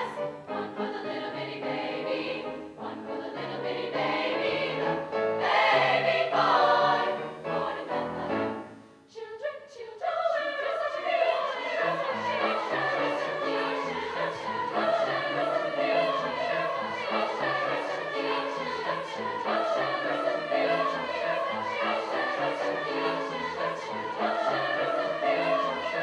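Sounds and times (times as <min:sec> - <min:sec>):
choir singing in parts: 0:00.0 - 0:26.0.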